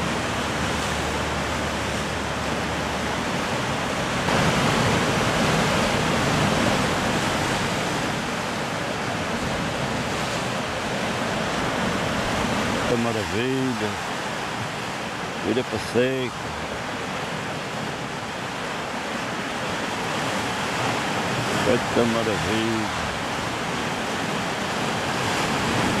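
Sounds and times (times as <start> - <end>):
surf washing against rocks: 0.0 - 26.0.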